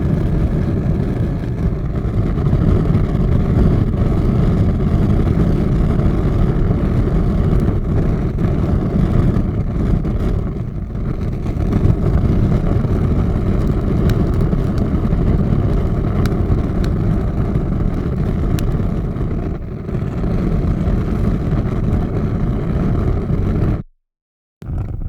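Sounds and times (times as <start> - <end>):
large fire rushing and crackling: 0.0 - 23.8, 24.6 - 25.0.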